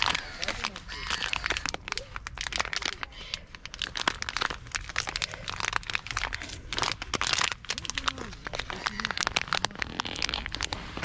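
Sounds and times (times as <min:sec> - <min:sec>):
plastic packet crinkling: 0:00.0 - 0:11.0.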